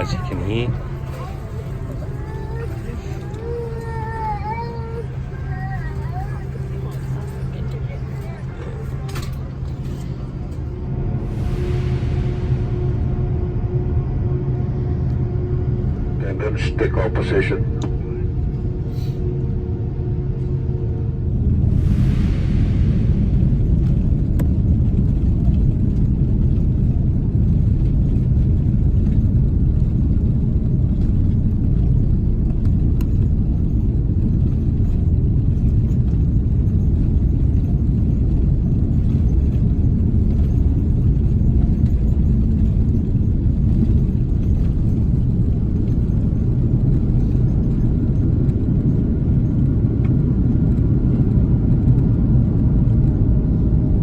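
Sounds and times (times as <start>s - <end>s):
cabin engine and airflow rumble: 0.0s - 54.0s.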